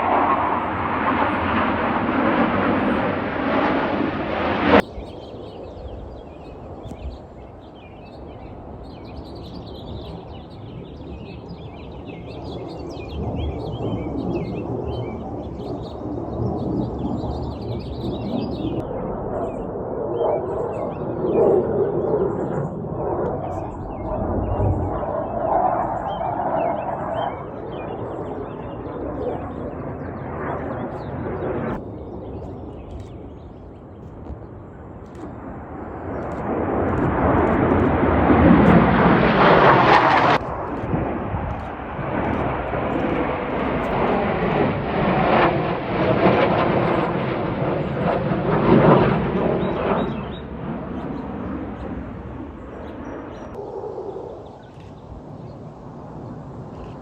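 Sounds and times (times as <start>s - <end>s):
jets roaring overhead: 0.0s - 57.0s.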